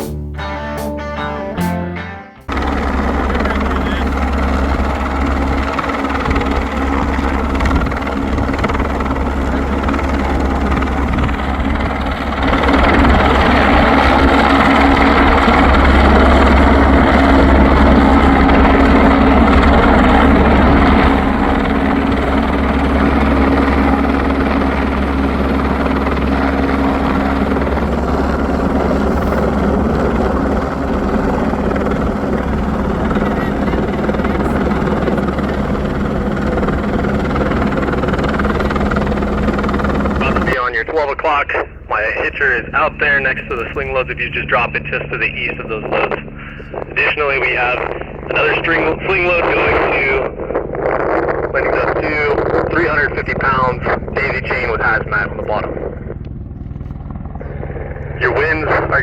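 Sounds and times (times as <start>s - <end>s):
helicopter rotor and engine: 2.5s - 59.0s.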